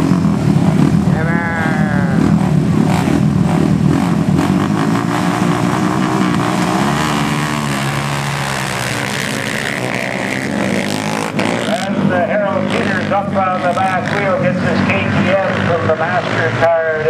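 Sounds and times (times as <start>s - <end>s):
dirt bikes revving and accelerating: 0.0s - 17.0s.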